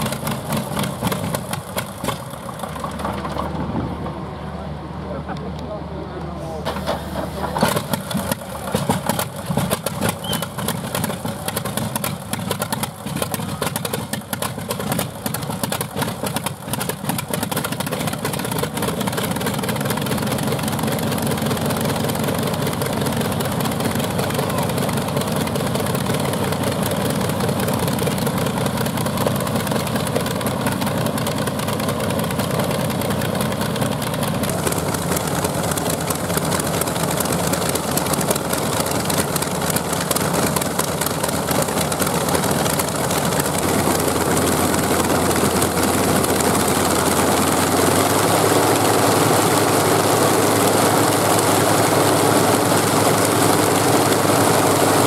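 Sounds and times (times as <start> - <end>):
radial aero engine running: 0.0 - 55.0.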